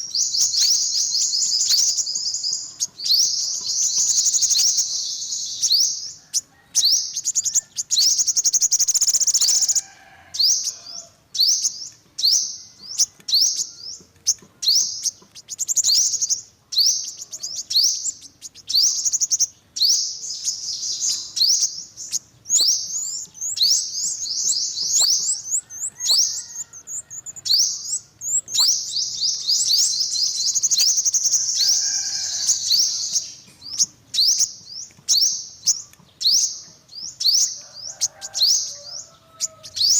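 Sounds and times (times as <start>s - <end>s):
bird chittering trills and chirps: 0.0s - 39.9s.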